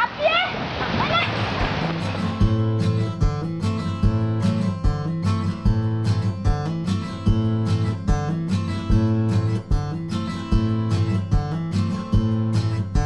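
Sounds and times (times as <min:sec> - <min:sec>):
acoustic guitar strumming chords: 0:01.8 - 0:13.0.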